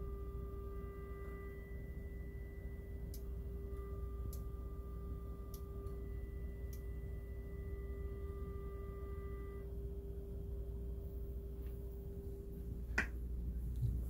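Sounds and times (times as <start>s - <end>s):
faint higher tones: 0.0s - 12.7s
low electronic hum: 0.0s - 14.0s.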